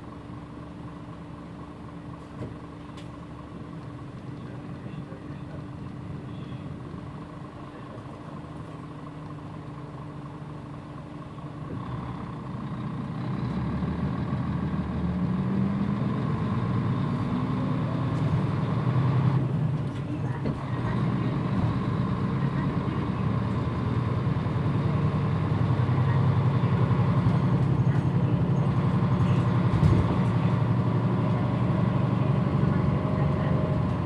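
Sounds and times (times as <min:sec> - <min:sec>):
bus diesel engine accelerating: 0:00.0 - 0:34.0.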